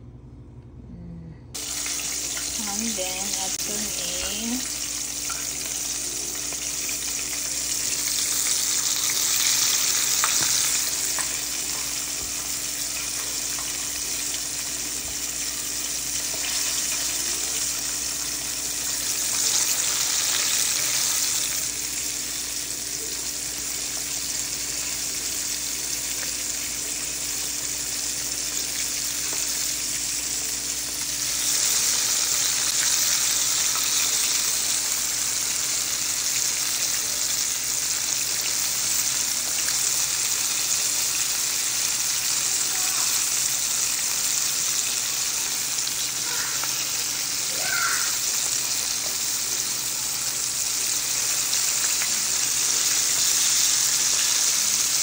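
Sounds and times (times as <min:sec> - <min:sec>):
chicken sizzling in hot oil: 0:01.6 - 0:55.0.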